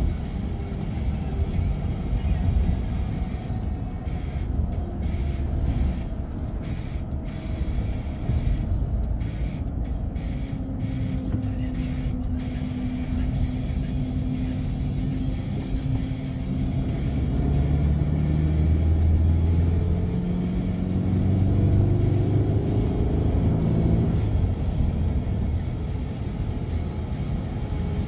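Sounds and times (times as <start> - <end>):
tyre and engine rumble: 0.0 - 28.0.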